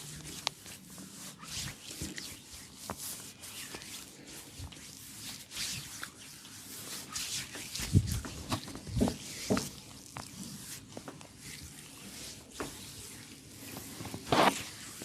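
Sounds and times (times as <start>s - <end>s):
hands rubbing over skin: 0.0s - 15.0s.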